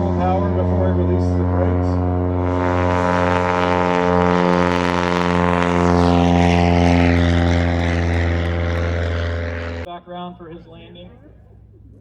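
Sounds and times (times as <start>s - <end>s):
airplane propeller engine drone: 0.0s - 12.0s.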